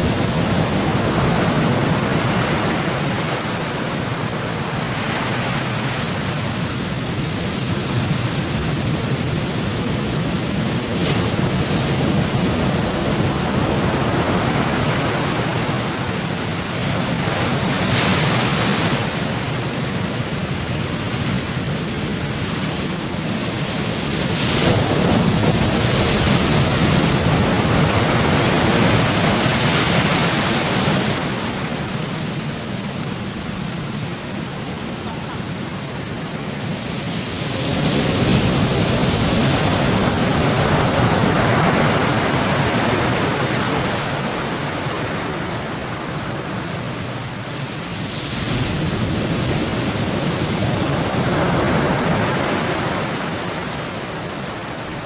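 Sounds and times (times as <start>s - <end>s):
sea waves breaking: 0.0s - 55.0s
wind buffeting microphone: 0.0s - 55.0s.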